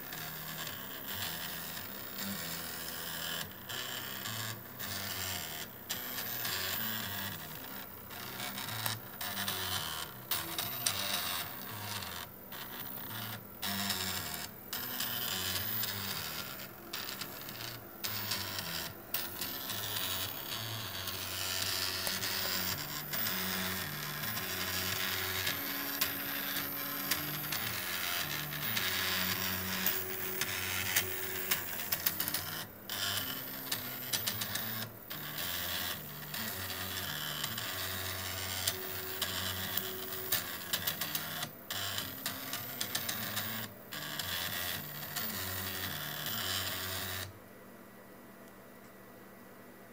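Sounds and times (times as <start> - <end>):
stepper motor whine: 0.0 - 47.3.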